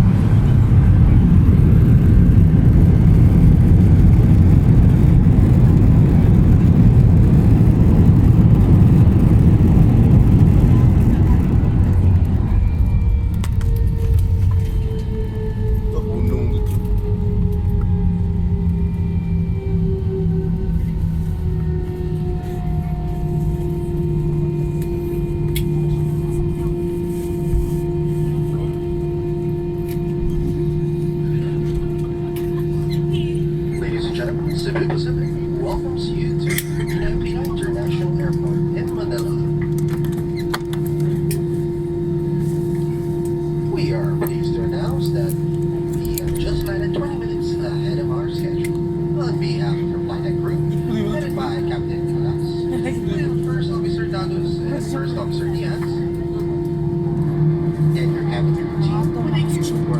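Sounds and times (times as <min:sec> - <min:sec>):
airplane low rumble: 0:00.0 - 0:59.9.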